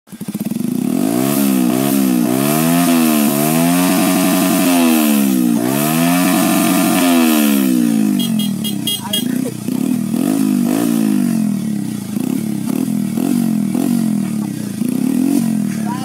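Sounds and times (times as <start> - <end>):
motorcycle engine revving: 0.1 - 16.0.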